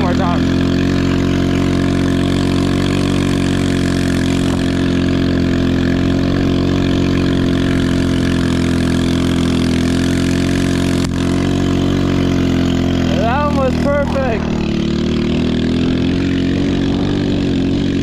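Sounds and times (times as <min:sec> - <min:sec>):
small engine running hard: 0:00.0 - 0:18.0.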